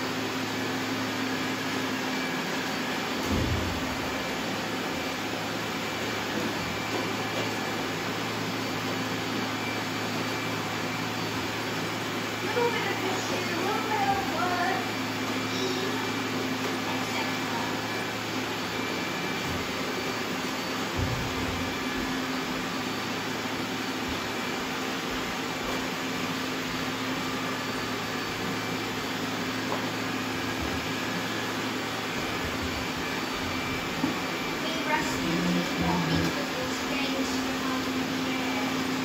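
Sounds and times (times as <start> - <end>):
robot vacuums whirring: 1.4 - 39.0.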